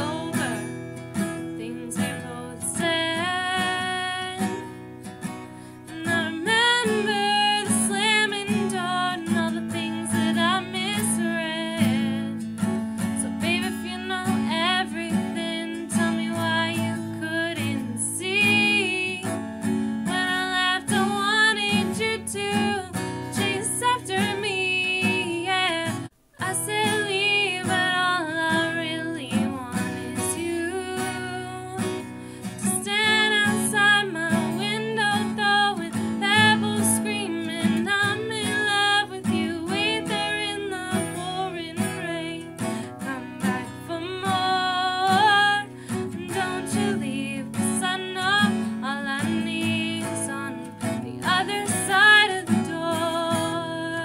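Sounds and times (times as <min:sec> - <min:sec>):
strummed acoustic guitar: 0:00.0 - 0:54.0
woman singing: 0:00.0 - 0:54.0.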